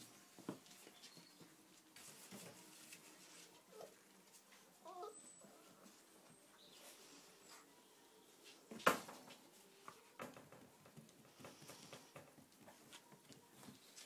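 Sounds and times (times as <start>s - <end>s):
puppies scuffling: 0.0s - 14.0s.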